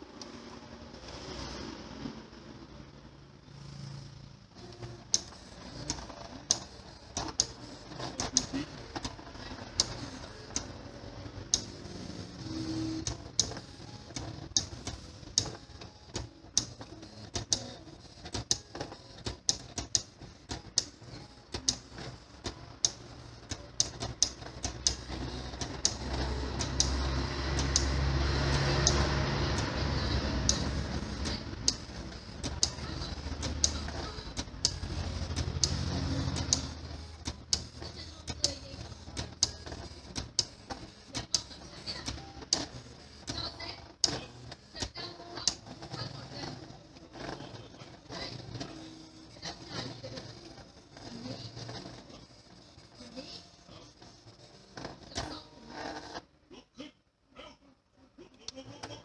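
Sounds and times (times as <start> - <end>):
plotter mechanism clicking: 4.6 - 52.1.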